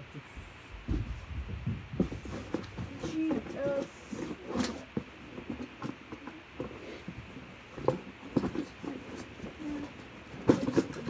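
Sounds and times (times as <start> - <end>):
small objects tapping and rustling: 0.8 - 11.0.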